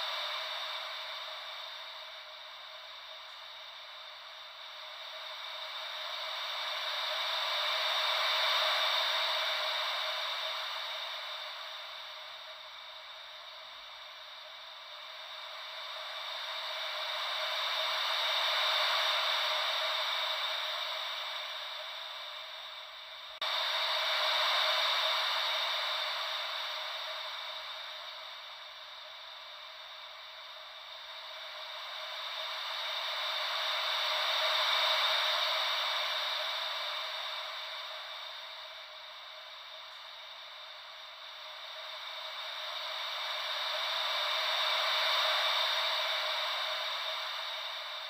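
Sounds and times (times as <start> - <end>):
ocean wave white noise hiss: 0.0 - 48.0.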